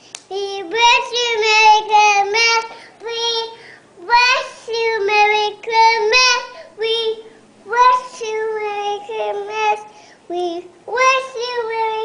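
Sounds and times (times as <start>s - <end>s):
toddler singing: 0.3s - 12.0s.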